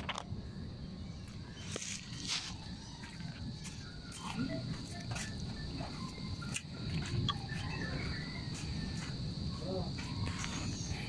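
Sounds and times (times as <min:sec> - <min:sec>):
high-pitched insect drone: 0:00.4 - 0:11.0.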